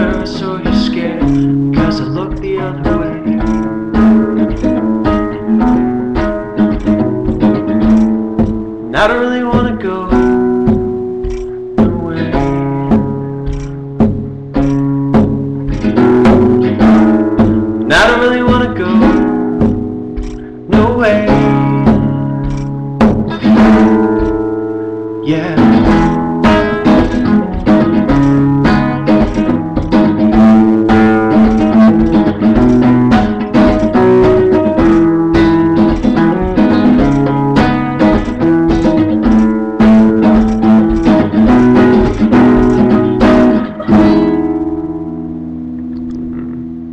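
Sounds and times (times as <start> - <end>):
acoustic guitar strumming chords: 0.0 - 46.9.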